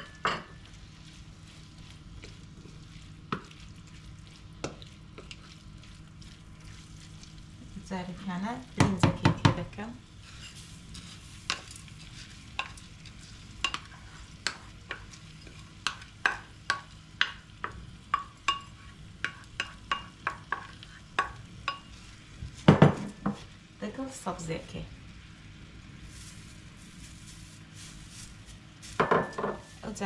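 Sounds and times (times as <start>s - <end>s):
stirring in a pan: 0.0s - 23.6s, 26.0s - 30.0s
faint sizzle from pan: 0.0s - 30.0s.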